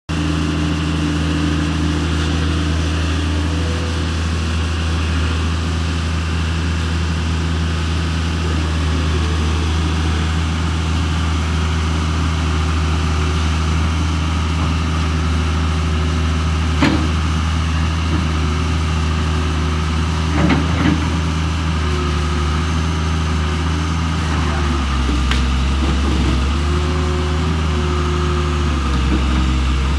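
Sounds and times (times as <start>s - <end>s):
vehicle engine idling: 0.1s - 29.9s.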